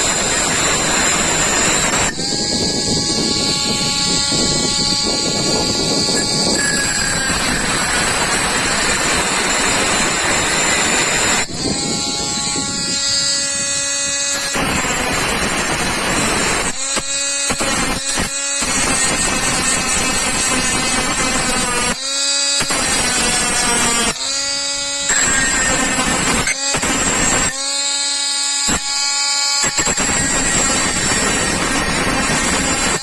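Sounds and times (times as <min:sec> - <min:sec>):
grinder cutting screw: 0:00.0 - 0:33.0
grinder motor whine: 0:00.0 - 0:33.0.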